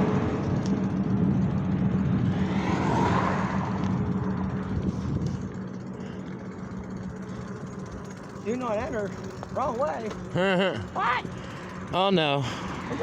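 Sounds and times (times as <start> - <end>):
road noise: 0.0 - 13.0
vehicle passing: 0.0 - 13.0.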